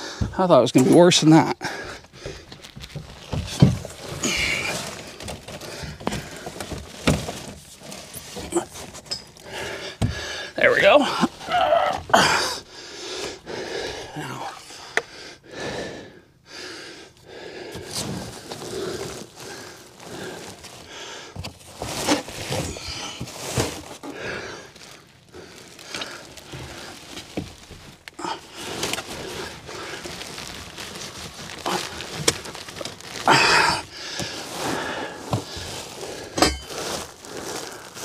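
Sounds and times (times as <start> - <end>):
heavy breathing: 0.0 - 0.4, 1.6 - 2.7, 3.4 - 6.8, 8.4 - 21.5, 22.3 - 27.4, 28.0 - 38.0
rustling and scraping: 1.9 - 13.4, 17.8 - 38.0.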